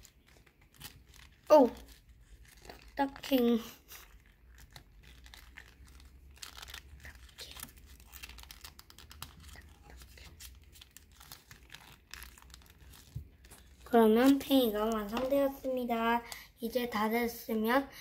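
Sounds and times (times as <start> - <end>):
paper crinkling and rustling: 0.0 - 15.9.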